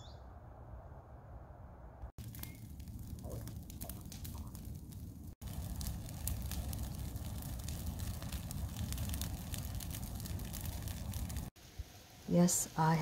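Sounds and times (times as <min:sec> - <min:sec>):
outdoor ambience: 0:00.0 - 0:13.0
brush fire crackling and popping: 0:02.2 - 0:13.0.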